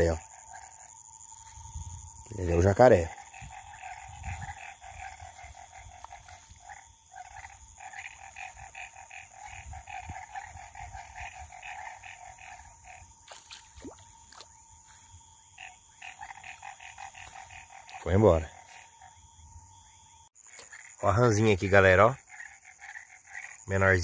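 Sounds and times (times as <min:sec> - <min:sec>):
frogs calling in chorus: 0:00.0 - 0:24.0.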